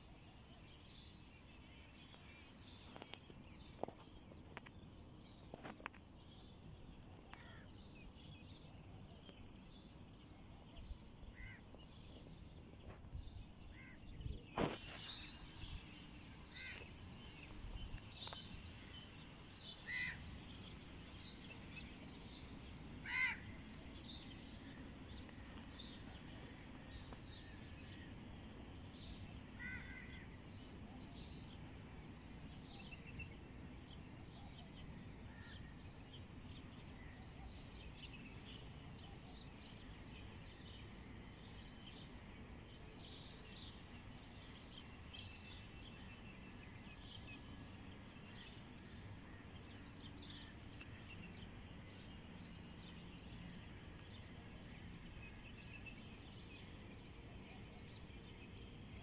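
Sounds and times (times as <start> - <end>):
low steady background noise: 0.0 - 59.0
small birds chirping: 0.0 - 59.0.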